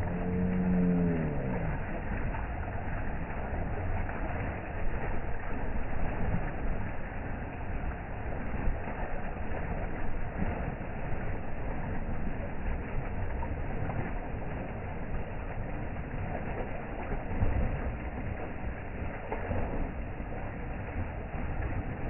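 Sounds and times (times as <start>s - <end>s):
water gushing and bubbling: 0.0s - 22.0s.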